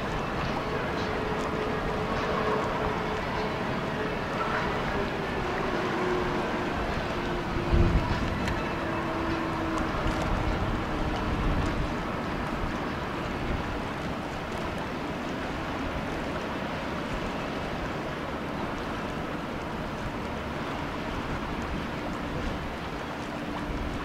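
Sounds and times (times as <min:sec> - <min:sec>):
ship engine hum: 0:00.0 - 0:24.0
water wash: 0:00.0 - 0:24.0
wind buffeting microphone: 0:00.0 - 0:24.0.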